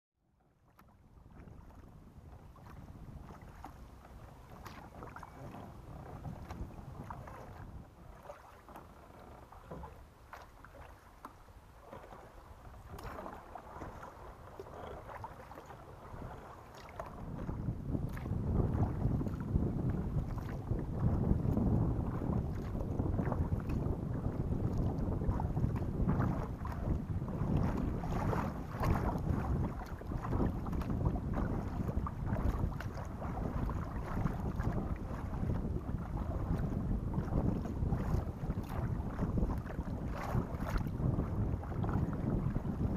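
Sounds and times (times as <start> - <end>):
paddle splashes and drips: 0.2 - 42.9
wind rumble on microphone: 0.3 - 42.9.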